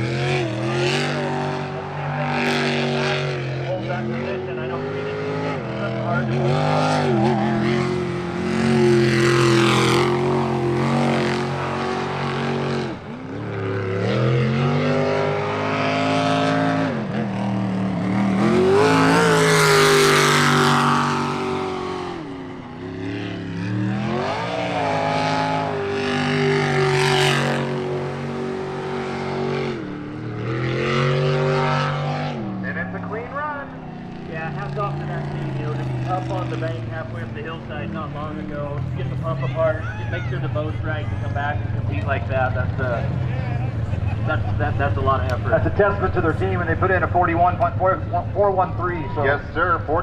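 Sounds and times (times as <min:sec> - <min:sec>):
jet boat engine revving: 0:00.0 - 0:50.0.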